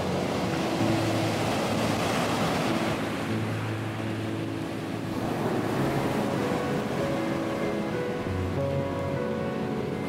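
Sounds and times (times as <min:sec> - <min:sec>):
faint background music: 0:00.0 - 0:10.0
surf breaking on beach: 0:00.0 - 0:10.0.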